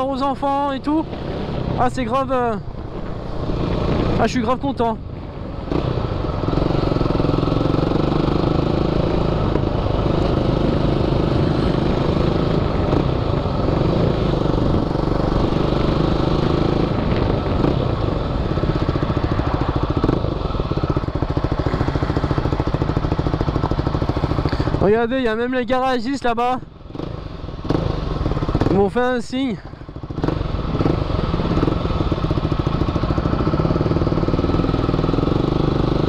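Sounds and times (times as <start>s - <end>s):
quad engine running: 0.0s - 36.0s.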